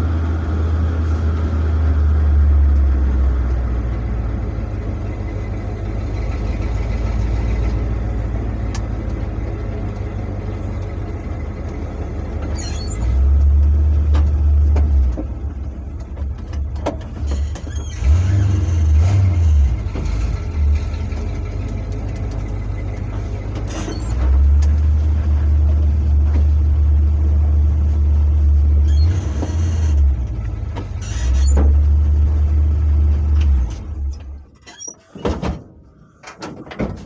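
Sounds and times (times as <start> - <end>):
truck engine low rumble: 0.0 - 37.0.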